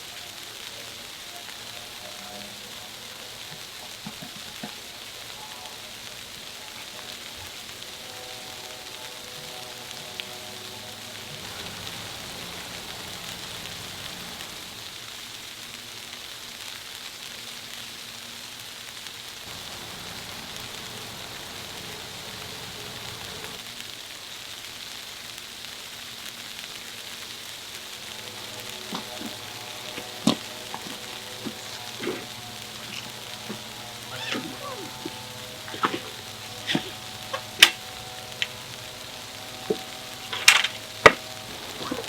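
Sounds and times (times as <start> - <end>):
rain crackling on surfaces: 0.0 - 42.0.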